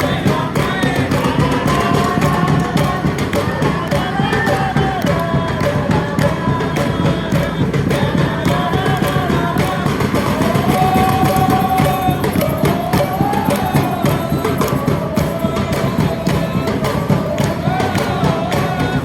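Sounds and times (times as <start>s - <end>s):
drums beating: 0.0s - 19.0s
football supporters chanting: 0.0s - 19.0s.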